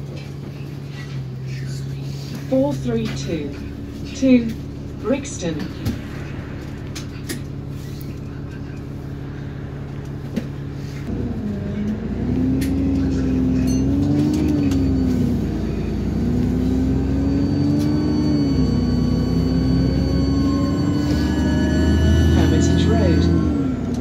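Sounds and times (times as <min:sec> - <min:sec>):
bus engine idling and accelerating: 0:00.0 - 0:24.0.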